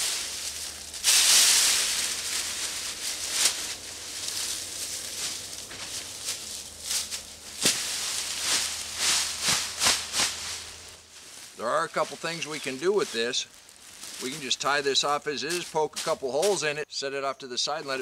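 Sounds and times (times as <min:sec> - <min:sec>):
plastic bag crackling: 0:00.0 - 0:16.6
dry leaves rustling and crackling: 0:00.0 - 0:16.7.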